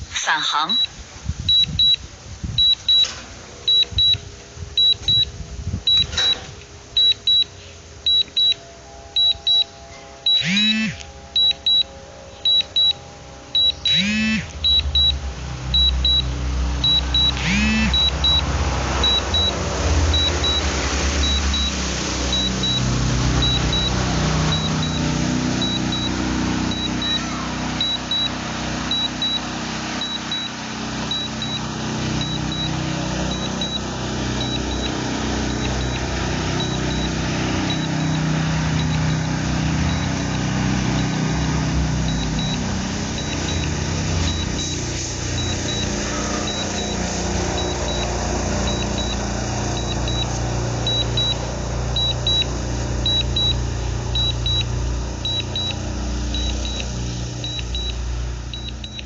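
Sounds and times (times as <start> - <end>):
short high warning beeps: 0.0 - 2.0, 2.6 - 3.1, 3.7 - 4.2, 4.8 - 5.3, 5.9 - 6.4, 7.0 - 7.5, 8.1 - 13.0, 13.6 - 15.2, 15.8 - 18.4, 19.0 - 19.6, 20.2 - 29.4, 30.0 - 31.6, 32.2 - 36.0, 36.6 - 49.2, 49.8 - 51.4, 52.0 - 53.6, 54.2 - 55.8, 56.4 - 58.0, 58.6 - 59.0
low rumbling noise: 0.0 - 10.3, 11.0 - 13.8, 14.4 - 59.0.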